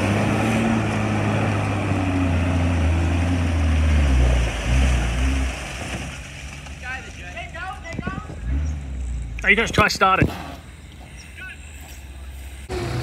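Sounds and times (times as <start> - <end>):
jeep engine labouring: 0.0 - 13.0
water sloshing around wheels: 0.0 - 13.0.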